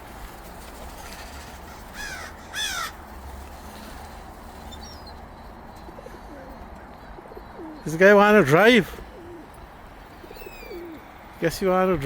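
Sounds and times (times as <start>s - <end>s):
large bird harsh calls: 0.6s - 5.2s, 6.0s - 12.0s.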